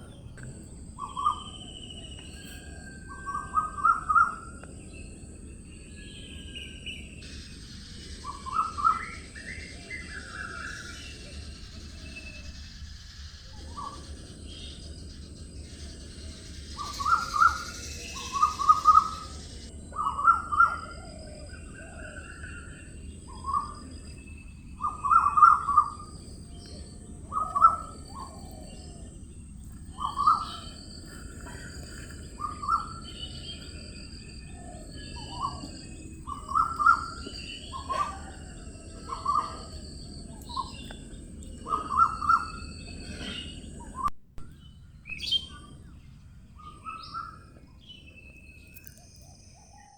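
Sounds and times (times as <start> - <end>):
birds singing: 0.0 - 49.9
faint high chirps: 0.0 - 49.9.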